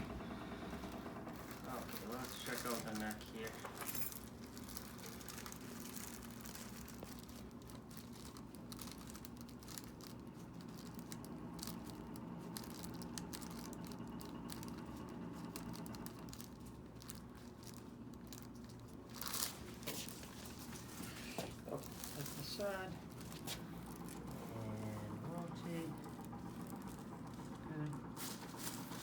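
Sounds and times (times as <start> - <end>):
low room hum: 0.0 - 29.0
soft rustling and crinkling: 0.5 - 29.0.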